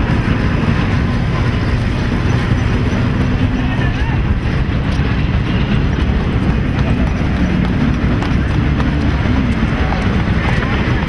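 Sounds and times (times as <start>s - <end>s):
low rumble: 0.0s - 11.0s
scattered clattering: 0.0s - 11.0s.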